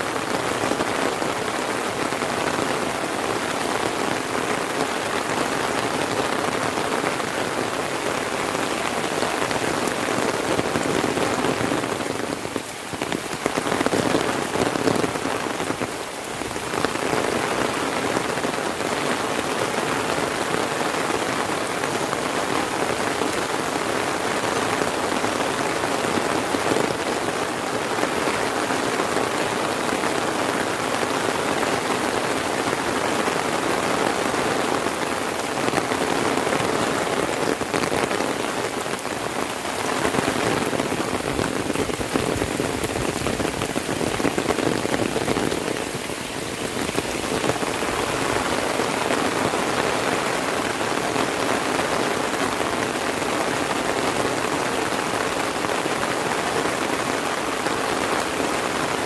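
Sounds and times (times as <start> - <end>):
heavy rain hitting ground: 0.0 - 59.0.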